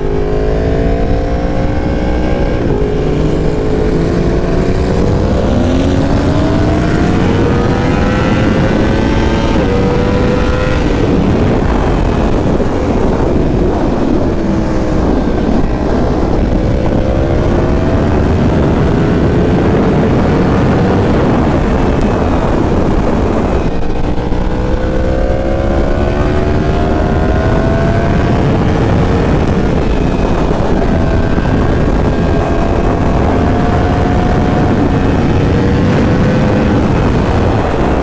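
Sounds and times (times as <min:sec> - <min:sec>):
motorcycle engine accelerating: 0:00.0 - 0:38.0
rushing noise: 0:00.0 - 0:38.0.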